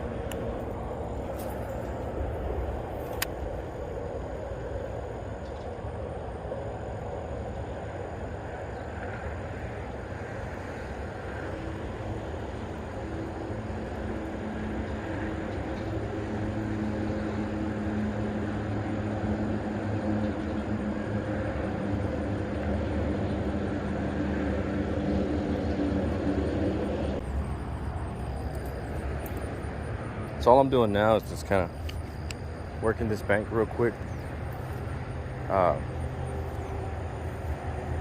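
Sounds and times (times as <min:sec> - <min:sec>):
distant engine drone: 0:00.0 - 0:38.0.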